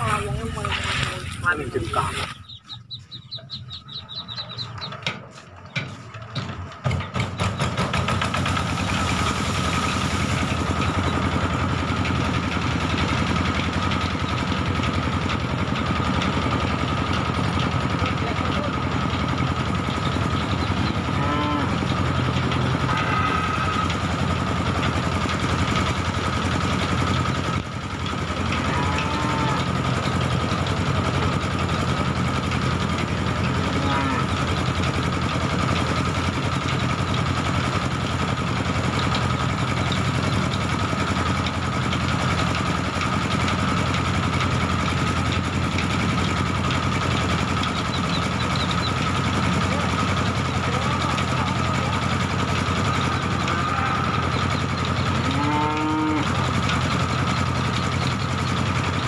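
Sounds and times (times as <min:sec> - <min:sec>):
threshing drum whine: 0:00.0 - 0:49.4
small engine droning: 0:00.0 - 0:59.0.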